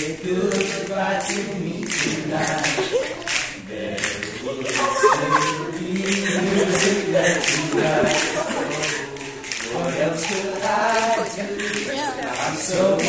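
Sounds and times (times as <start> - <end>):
hand claps: 0.0 - 13.0
young male voices singing: 0.0 - 13.0.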